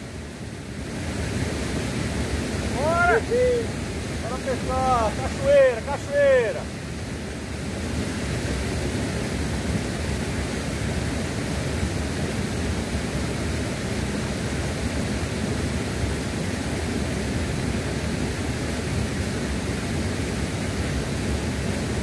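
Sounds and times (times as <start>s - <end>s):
waterfall rushing: 0.6s - 18.6s.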